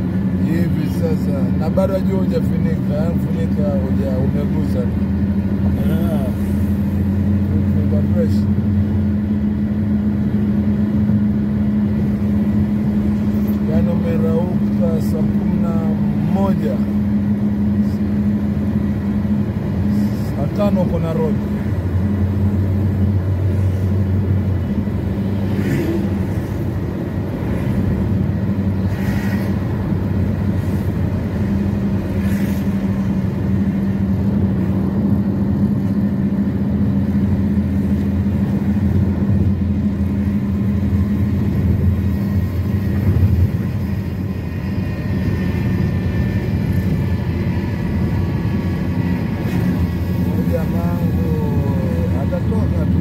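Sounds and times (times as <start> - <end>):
road noise: 0.0 - 53.0
vehicle engine hum: 0.0 - 53.0.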